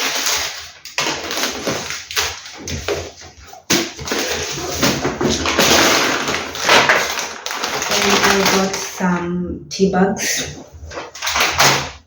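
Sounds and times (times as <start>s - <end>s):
plastic bags rustling: 0.0s - 9.4s, 10.2s - 12.0s.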